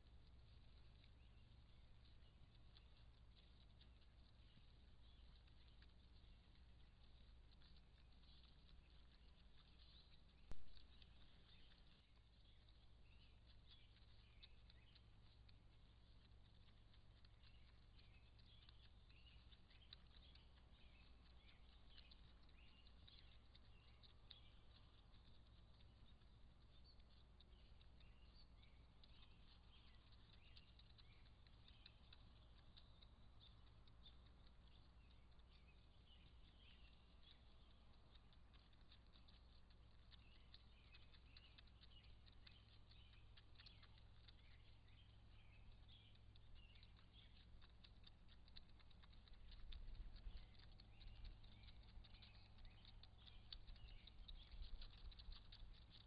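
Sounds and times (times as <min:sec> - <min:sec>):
faint high ticks and chirps: 0:00.0 - 0:56.0
low steady hum: 0:00.0 - 0:56.0.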